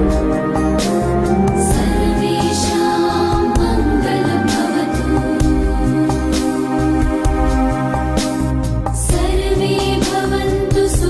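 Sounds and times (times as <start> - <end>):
sustained chords over low beat: 0.0 - 10.0.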